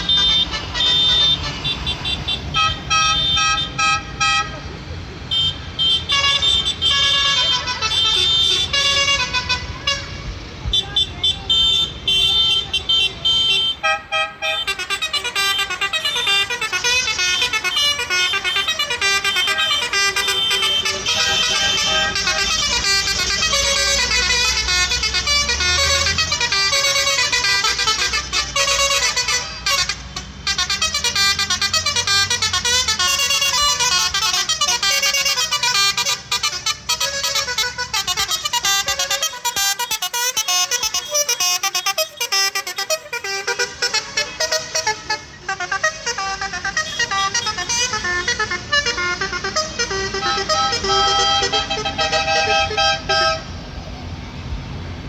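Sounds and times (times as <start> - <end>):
vehicle horns sounding: 0.0 - 53.6.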